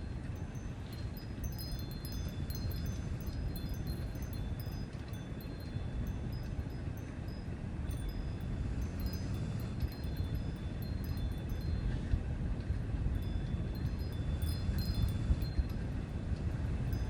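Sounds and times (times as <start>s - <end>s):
wind chimes tinkling: 0.0s - 12.5s, 13.1s - 17.0s.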